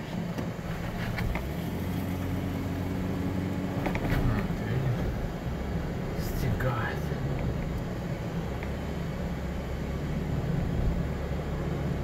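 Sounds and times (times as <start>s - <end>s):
low engine drone in cabin: 0.0s - 12.0s.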